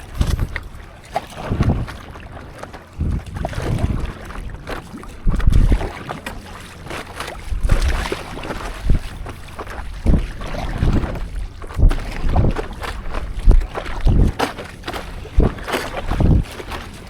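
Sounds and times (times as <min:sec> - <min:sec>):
water splashing and lapping: 0:00.0 - 0:17.0.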